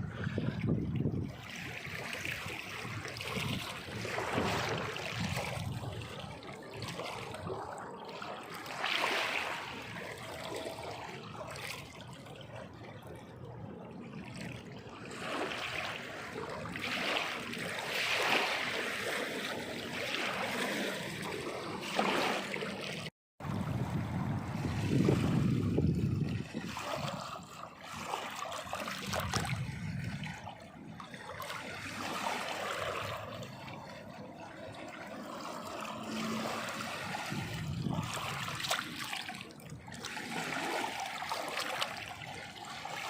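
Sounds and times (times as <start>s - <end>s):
water splashing: 0.0s - 43.0s.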